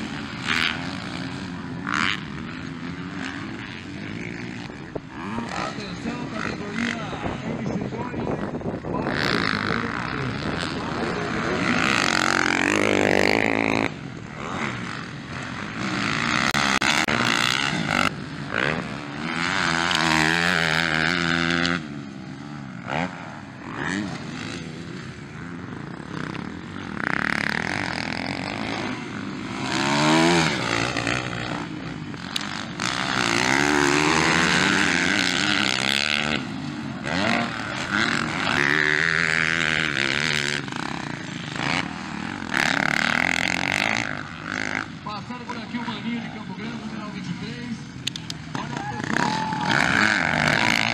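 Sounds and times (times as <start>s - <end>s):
dirt bike engines revving: 0.0s - 50.9s.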